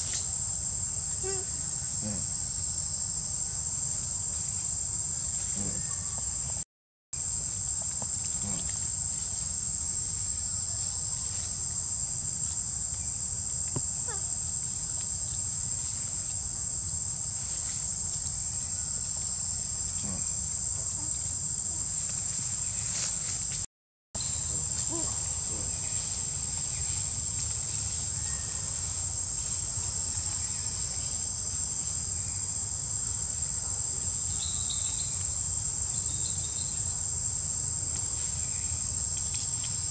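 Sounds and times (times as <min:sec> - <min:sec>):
forest insect chorus drone: 0:00.0 - 0:06.6, 0:07.2 - 0:39.9.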